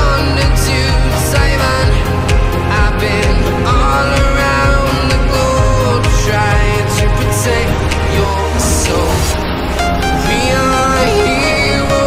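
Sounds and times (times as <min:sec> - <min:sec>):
pop song with steady beat: 0:00.0 - 0:12.0.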